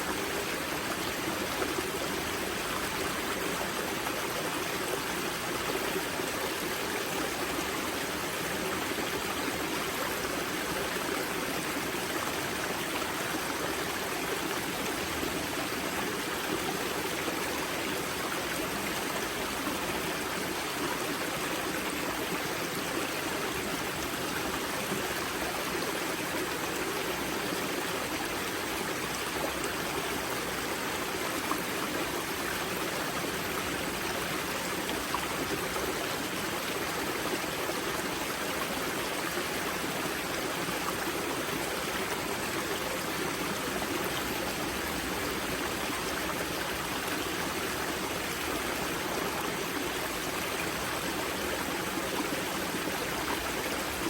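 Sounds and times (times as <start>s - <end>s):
river water flowing and splashing: 0.0s - 54.0s.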